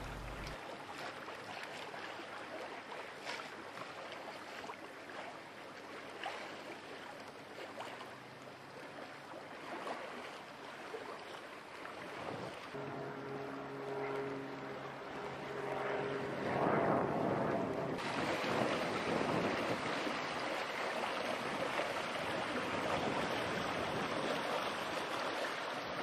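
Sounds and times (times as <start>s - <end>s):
soft water splashes: 0.0s - 16.9s, 17.6s - 26.0s
water washing along a hull: 0.0s - 26.0s.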